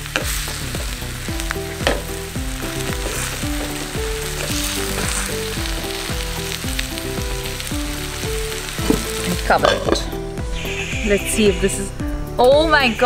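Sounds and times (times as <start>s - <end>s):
meat sizzling in oil: 0.0s - 11.4s
background music with a beat: 0.0s - 13.0s.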